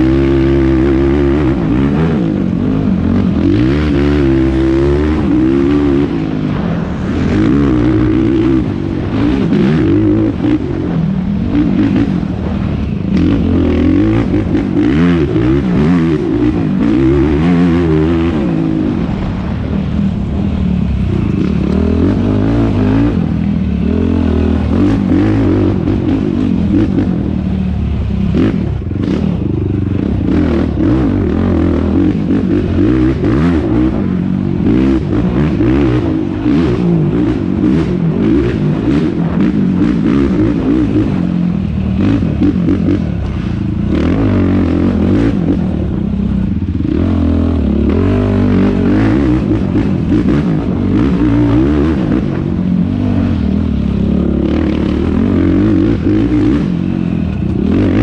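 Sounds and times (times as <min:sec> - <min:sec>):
engine revving: 0:00.0 - 0:58.0.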